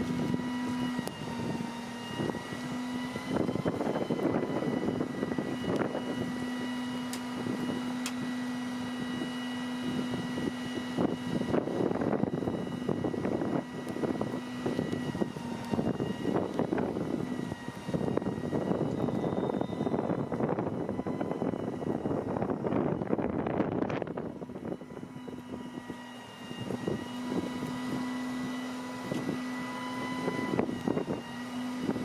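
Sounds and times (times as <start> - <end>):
mechanical whine: 0.0 - 32.0.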